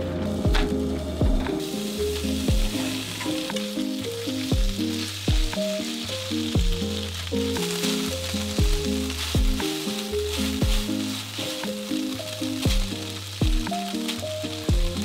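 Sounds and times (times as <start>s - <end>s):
music with bass and kick drum: 0.0s - 15.0s
vegetables sizzling in hot oil: 0.0s - 15.0s.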